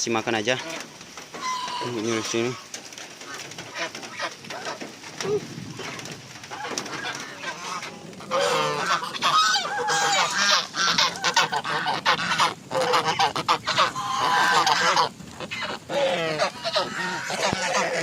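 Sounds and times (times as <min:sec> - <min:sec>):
geese honking: 0:00.5 - 0:05.0, 0:05.7 - 0:18.0.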